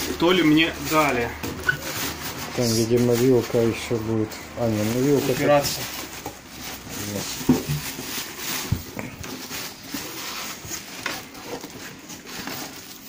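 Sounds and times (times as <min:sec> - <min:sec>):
plastic wrap crinkling: 0:00.0 - 0:13.0
polystyrene rubbing on cardboard: 0:00.0 - 0:13.0.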